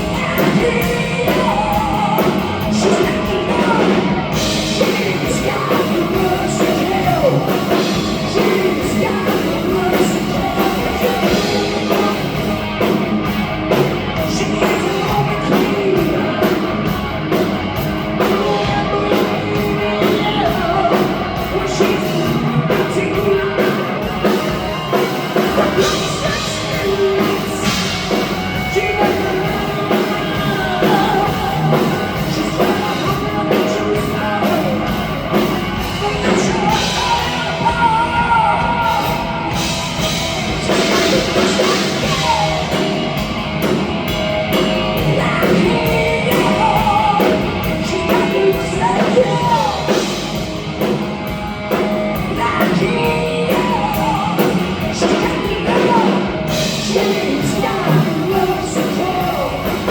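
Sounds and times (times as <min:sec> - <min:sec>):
person singing: 0:00.0 - 0:51.0, 0:51.7 - 0:59.9
hard rock band playing: 0:00.0 - 0:59.9.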